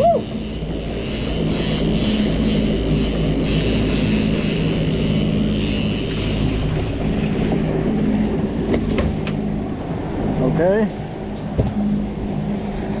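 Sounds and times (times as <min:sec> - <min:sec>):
motorboat engine running: 0:00.0 - 0:13.0
wind noise on microphone: 0:00.0 - 0:13.0.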